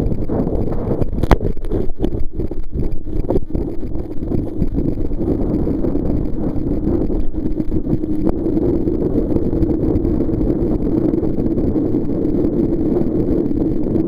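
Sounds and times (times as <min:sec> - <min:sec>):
muffled rush of wind and water: 0:00.0 - 0:14.0.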